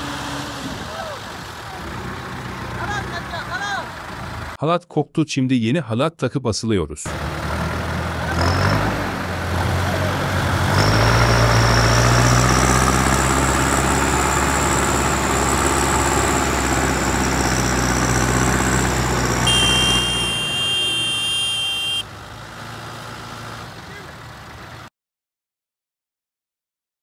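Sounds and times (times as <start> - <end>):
tractor diesel engines: 0.0 - 4.6, 7.1 - 24.9.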